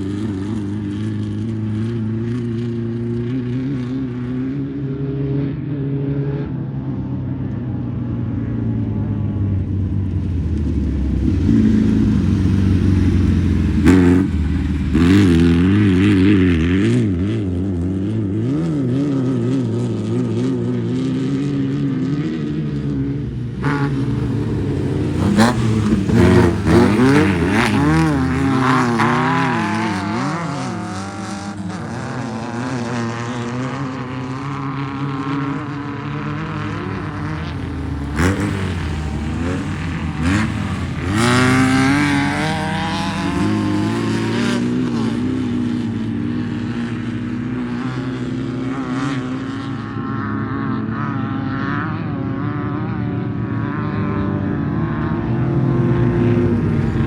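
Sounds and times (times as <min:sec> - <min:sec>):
race vehicle engines revving: 0:00.0 - 0:57.0.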